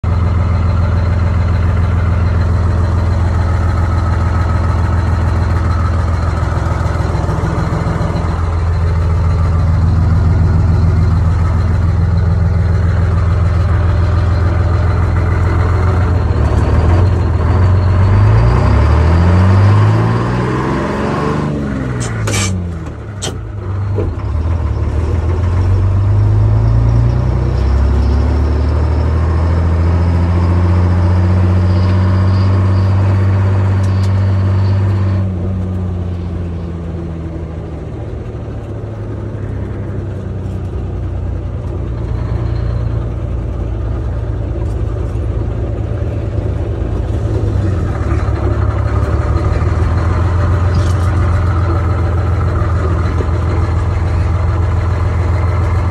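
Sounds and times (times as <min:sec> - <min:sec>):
diesel truck engine: 0:00.0 - 0:55.9.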